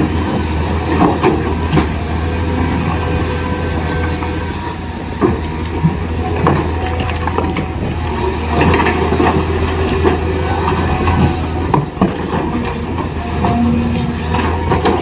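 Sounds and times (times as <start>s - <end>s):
small electric motors humming: 0.0s - 15.0s.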